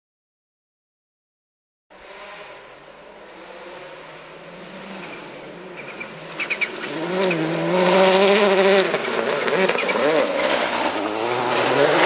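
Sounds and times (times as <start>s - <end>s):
rally car engine at high revs: 1.9s - 12.0s.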